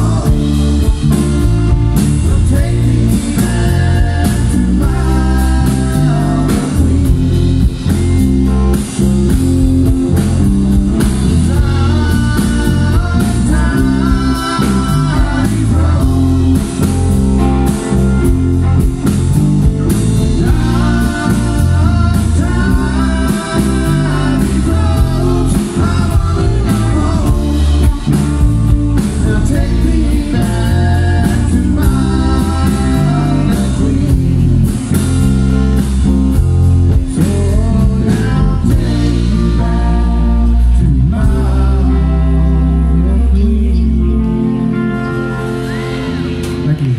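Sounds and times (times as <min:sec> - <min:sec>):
person singing: 0:00.0 - 0:08.0, 0:11.0 - 0:34.9, 0:36.9 - 0:46.9
drum kit: 0:00.0 - 0:41.8, 0:45.4 - 0:46.9
electric guitars: 0:00.0 - 0:46.9
heavy bass: 0:00.0 - 0:46.9.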